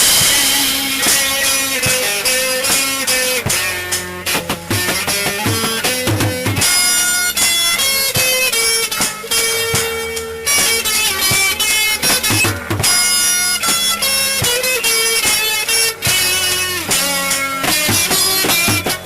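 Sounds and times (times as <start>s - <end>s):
instrumental guitar music: 0.0s - 19.0s.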